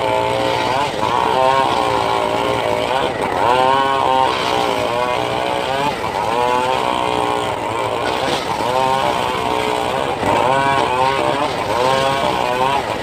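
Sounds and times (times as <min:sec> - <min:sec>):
circular saw cutting wood: 0:00.0 - 0:13.0.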